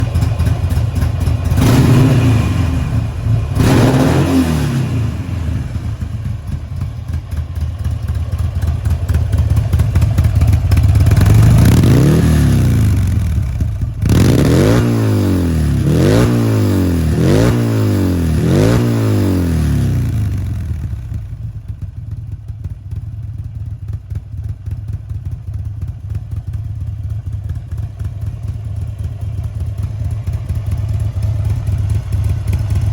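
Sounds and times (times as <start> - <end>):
motorcycle engine revving: 0.0 - 23.0, 26.0 - 32.9
motorcycle engine idling: 0.0 - 32.9.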